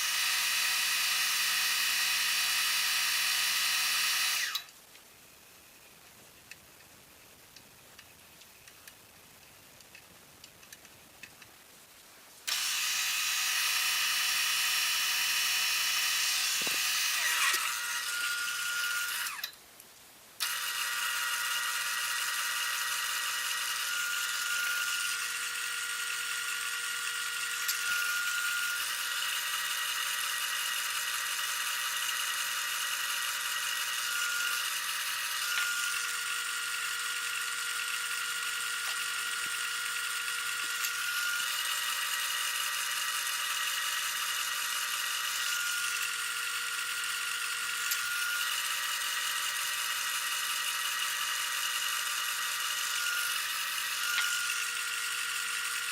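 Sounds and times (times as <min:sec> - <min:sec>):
wood lathe motor whine: 0:00.0 - 0:04.7, 0:12.5 - 0:19.5, 0:20.4 - 0:55.9.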